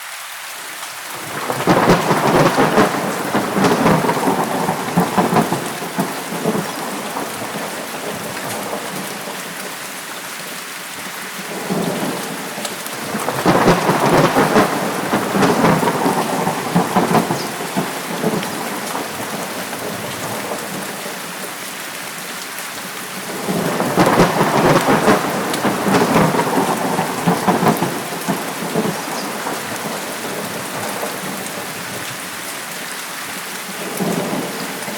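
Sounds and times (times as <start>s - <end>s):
heavy rain: 0.0s - 34.9s
thunder rumbling: 1.1s - 9.7s, 11.4s - 21.4s, 23.1s - 32.3s, 33.8s - 34.9s.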